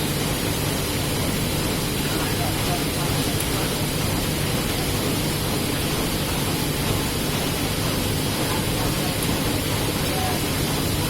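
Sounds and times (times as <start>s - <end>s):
printing press running: 0.0s - 11.0s.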